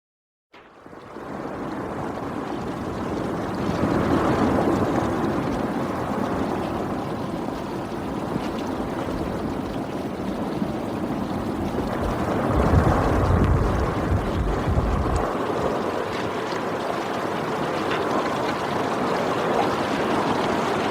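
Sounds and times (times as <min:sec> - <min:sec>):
avalanche rumble: 0:00.6 - 0:20.9.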